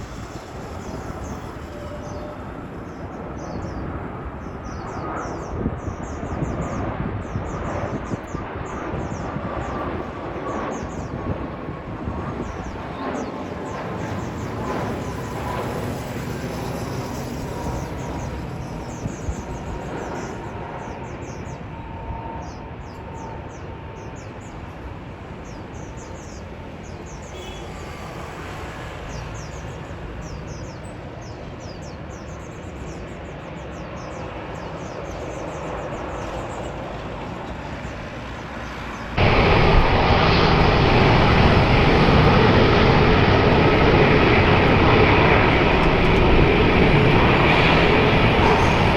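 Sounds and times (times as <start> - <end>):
jet engine noise with whine: 0.0 - 48.9.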